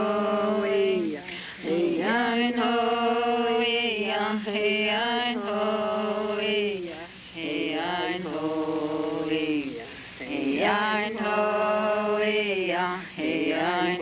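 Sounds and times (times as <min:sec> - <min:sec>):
voices singing a chant: 0:00.0 - 0:14.0.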